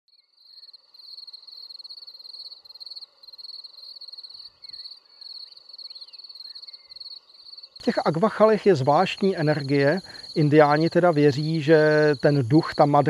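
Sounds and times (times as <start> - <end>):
insects trilling: 0.1 - 13.0.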